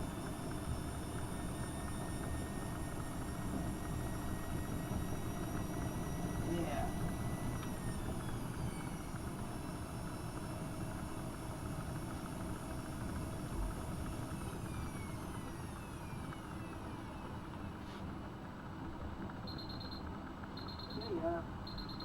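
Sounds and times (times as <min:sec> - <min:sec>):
washing machine motor winding down: 0:00.0 - 0:22.0.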